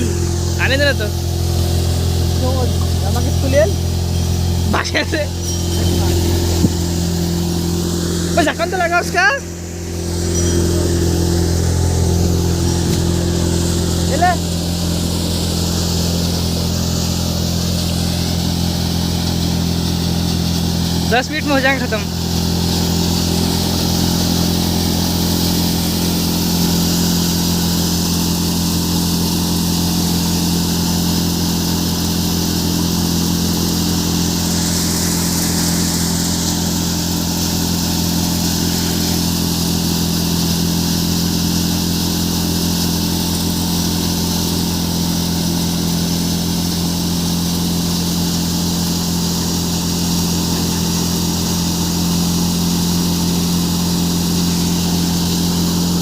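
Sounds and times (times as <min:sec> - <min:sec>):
threshing machine hiss: 0:00.0 - 0:56.0
tractor engine running under load: 0:00.0 - 0:56.0.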